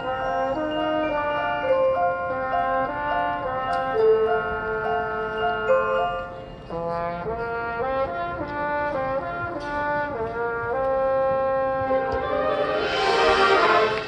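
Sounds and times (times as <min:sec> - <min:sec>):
brass band playing chords: 0:00.0 - 0:05.8, 0:06.7 - 0:14.0.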